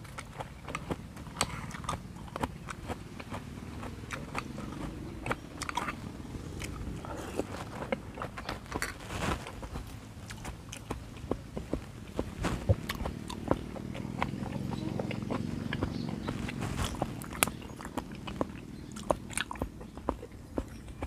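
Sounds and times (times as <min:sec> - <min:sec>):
wet chewing and lip smacking: 0:00.0 - 0:21.0.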